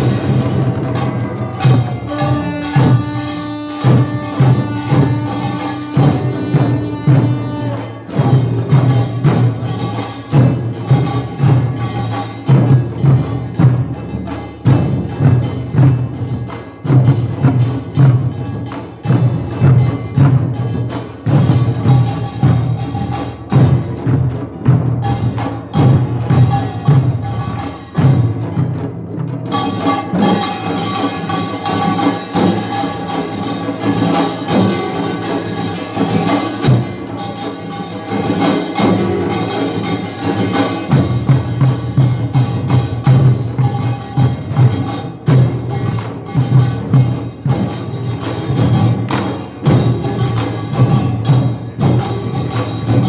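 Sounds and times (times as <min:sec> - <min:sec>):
percussion ensemble drums and gongs: 0:00.0 - 0:53.0.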